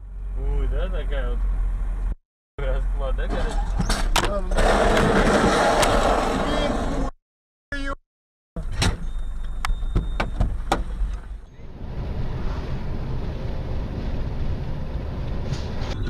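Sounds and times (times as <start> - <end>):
car tyres and engine rumble: 0.0 - 7.2, 8.6 - 16.0.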